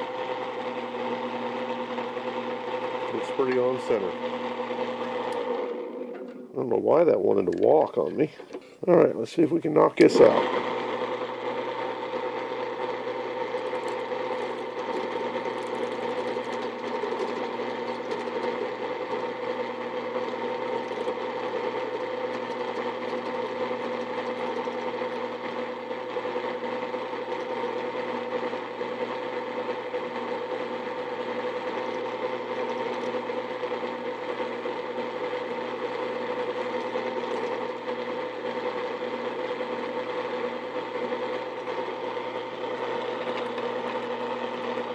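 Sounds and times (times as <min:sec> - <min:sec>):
drill press humming: 0:00.0 - 0:09.0, 0:09.9 - 0:44.9.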